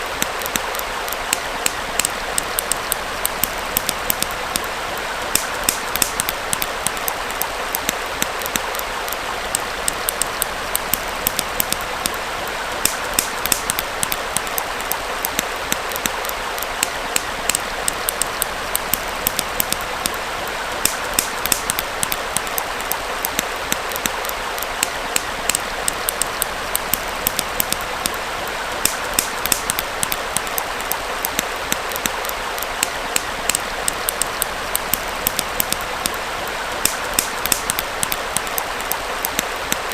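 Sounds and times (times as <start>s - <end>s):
small stream rushing: 0.0s - 39.9s
wood fire crackling and popping: 0.0s - 39.9s.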